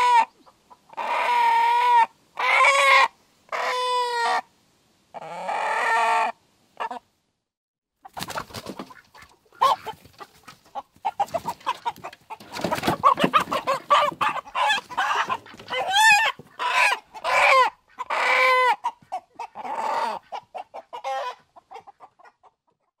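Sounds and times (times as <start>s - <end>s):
chickens clucking: 0.0s - 4.5s, 5.1s - 7.2s, 8.0s - 22.9s.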